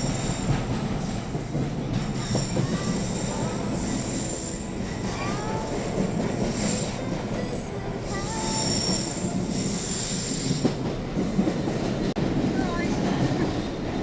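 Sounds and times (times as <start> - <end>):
ride car rumbling on track: 0.0 - 14.0.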